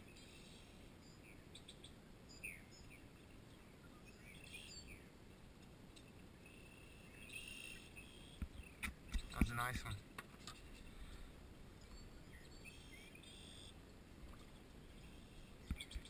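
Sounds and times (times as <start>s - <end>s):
faint birds chirping: 0.0s - 16.0s
low steady background noise: 0.0s - 16.0s.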